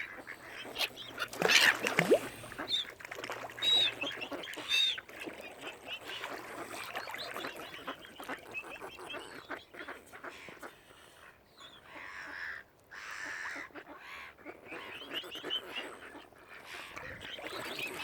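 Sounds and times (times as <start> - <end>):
waterfowl honking and quacking: 0.0 - 18.0.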